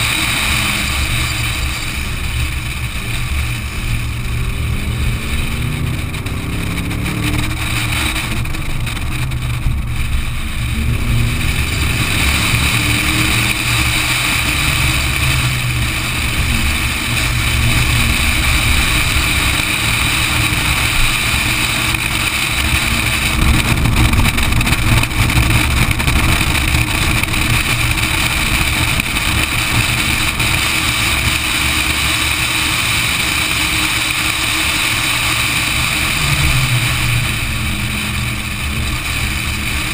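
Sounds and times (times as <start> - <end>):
race car engine revving: 0.0 - 39.9
wind rumble on microphone: 0.0 - 39.9.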